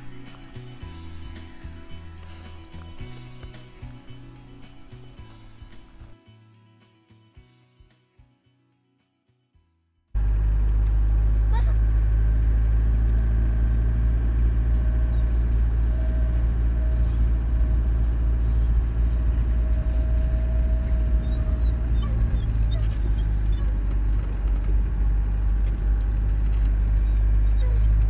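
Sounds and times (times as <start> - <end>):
engine and road rumble: 0.0 - 6.2, 10.1 - 28.0.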